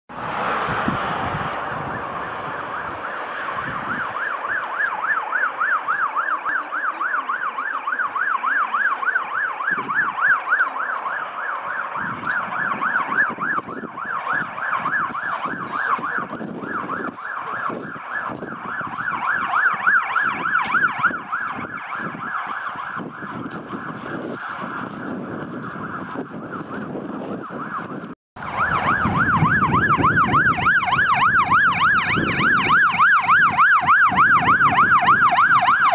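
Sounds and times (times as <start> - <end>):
fire engine siren yelping: 0.1 - 35.9
road noise: 0.1 - 35.9
truck engine: 0.1 - 35.9.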